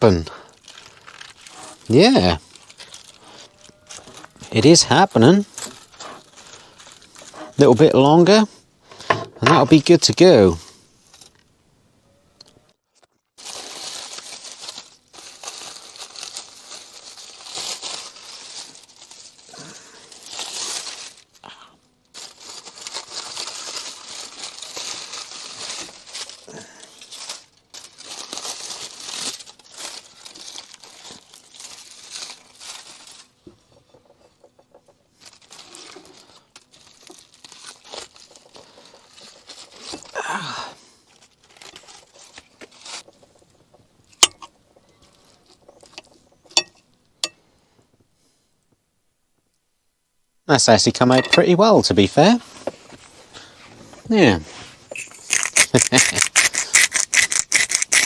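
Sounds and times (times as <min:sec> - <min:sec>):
aluminium foil crinkling: 0:00.1 - 0:08.3, 0:12.9 - 0:47.4, 0:50.9 - 0:58.0.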